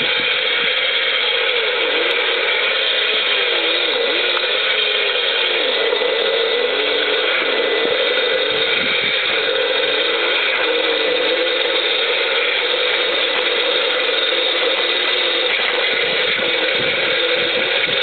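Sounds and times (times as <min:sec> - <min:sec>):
toy car motor gear whine: 0:00.0 - 0:18.0.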